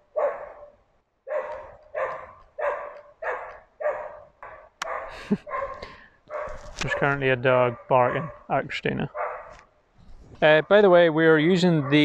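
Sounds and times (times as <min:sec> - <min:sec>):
dog barking: 0:00.0 - 0:09.6, 0:11.6 - 0:12.0.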